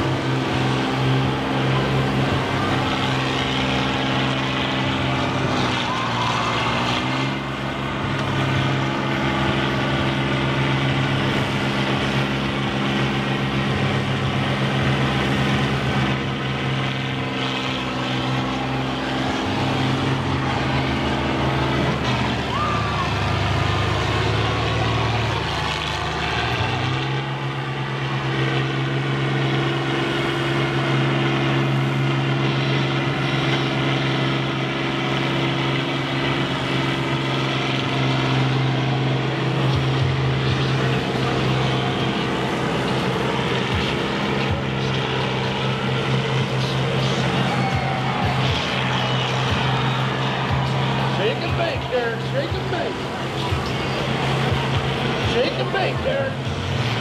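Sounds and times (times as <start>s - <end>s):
harvester engines droning: 0.0s - 57.0s.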